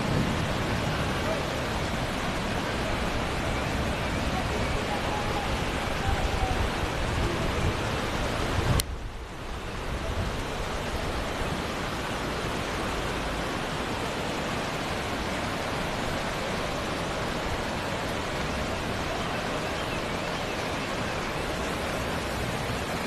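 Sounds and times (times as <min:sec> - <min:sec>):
rain and rushing floodwater: 0:00.0 - 0:23.0.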